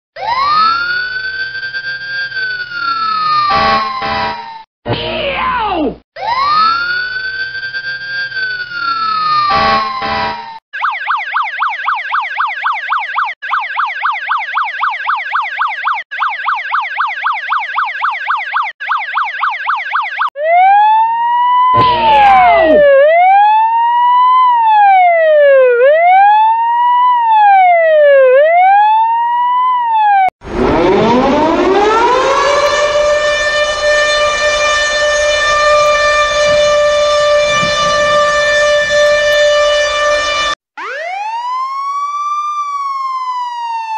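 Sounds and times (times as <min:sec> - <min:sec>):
gliding siren tones: 0:00.2 - 0:04.6, 0:06.2 - 0:43.9
wailing siren: 0:00.2 - 0:04.7, 0:05.5 - 0:43.9
electronic siren yelp: 0:00.2 - 0:43.9
loud siren blast: 0:00.2 - 0:43.9
siren holding steady tone: 0:00.2 - 0:43.9.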